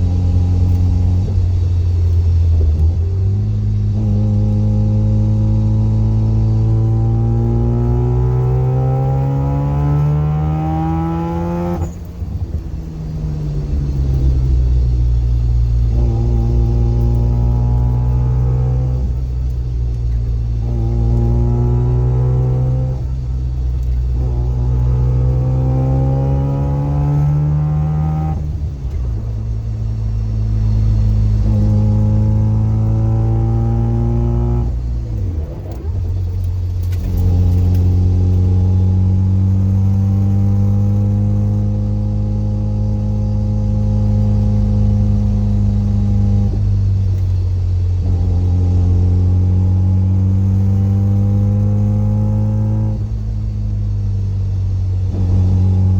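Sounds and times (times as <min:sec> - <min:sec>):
differential gear whine: 0:00.0 - 0:55.9
rotary engine accelerating through gears: 0:00.0 - 0:55.9.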